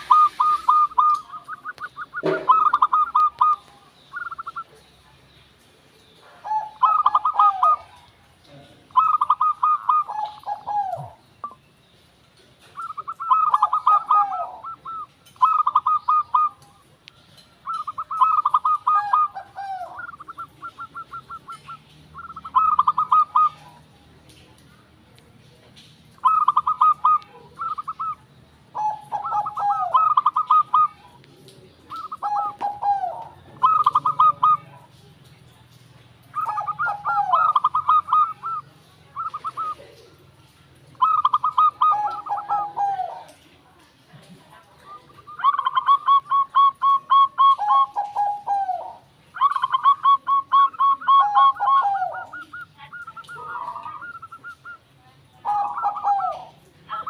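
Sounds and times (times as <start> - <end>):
dove cooing: 0.0 - 4.9, 6.2 - 11.6, 12.6 - 24.4, 26.2 - 35.6, 36.2 - 43.5, 44.7 - 57.0.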